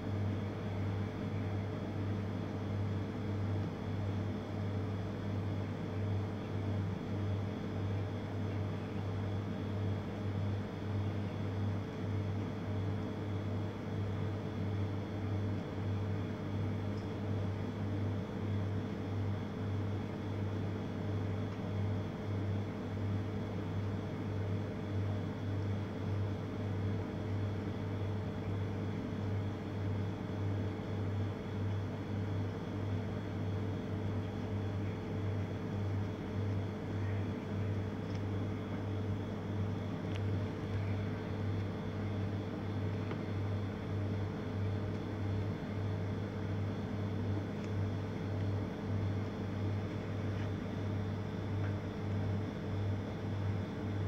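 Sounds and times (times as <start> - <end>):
low pulsing machine hum: 0.0 - 54.0.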